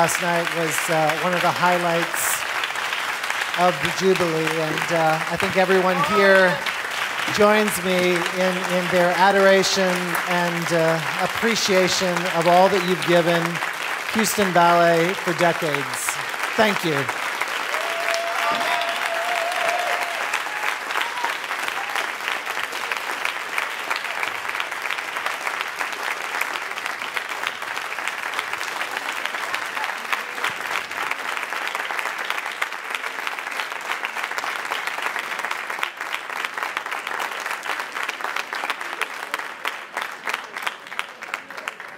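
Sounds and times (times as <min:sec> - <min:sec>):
crowd applauding: 0:00.0 - 0:41.9.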